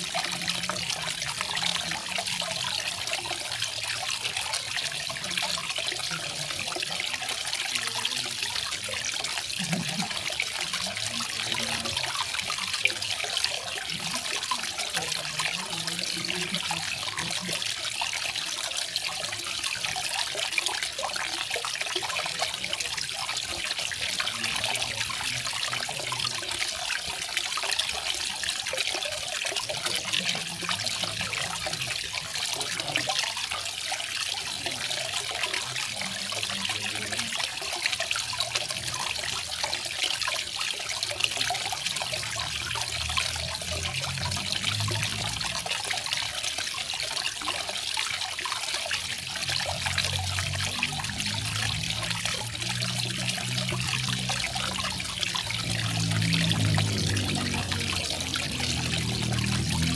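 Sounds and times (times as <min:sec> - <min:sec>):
garden waterfall splashing: 0:00.0 - 0:59.9.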